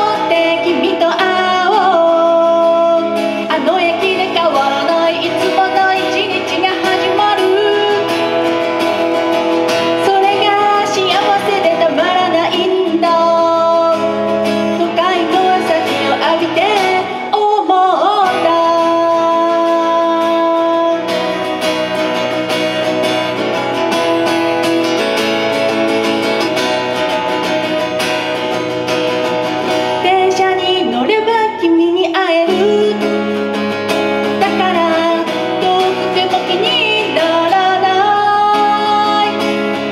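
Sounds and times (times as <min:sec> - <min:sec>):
woman singing: 0:00.0 - 0:24.1, 0:26.1 - 0:39.9
strummed acoustic guitar: 0:00.0 - 0:39.9.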